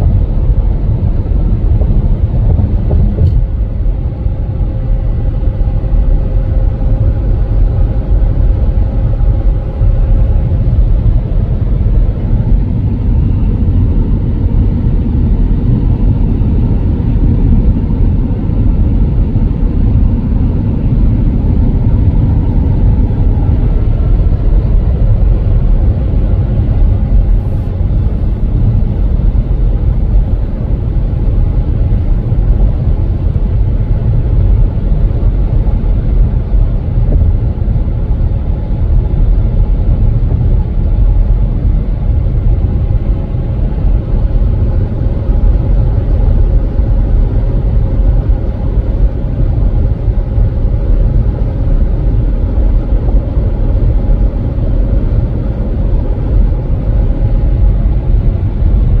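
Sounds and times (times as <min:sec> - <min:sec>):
car driving road rumble: 0:00.0 - 0:59.0.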